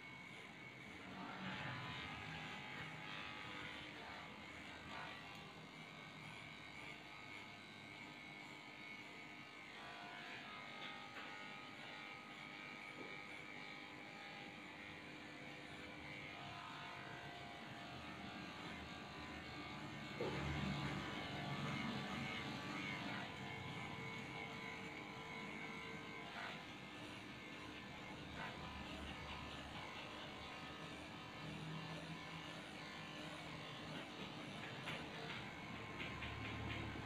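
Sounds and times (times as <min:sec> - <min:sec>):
electric clippers buzzing: 0:00.0 - 0:37.0.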